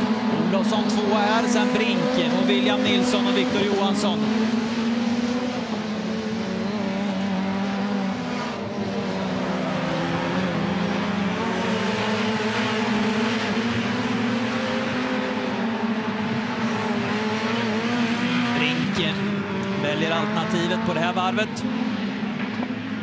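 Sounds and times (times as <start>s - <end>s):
race car engines running hard: 0.0s - 23.0s.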